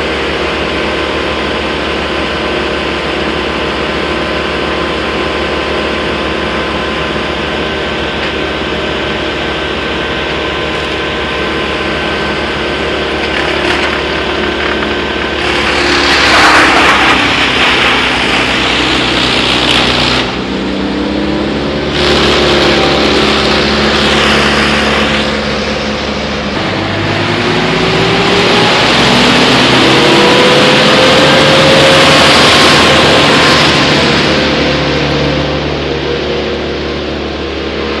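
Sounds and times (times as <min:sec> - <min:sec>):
loader engine running: 0:00.0 - 0:38.0
wood chipper grinding: 0:00.0 - 0:38.0.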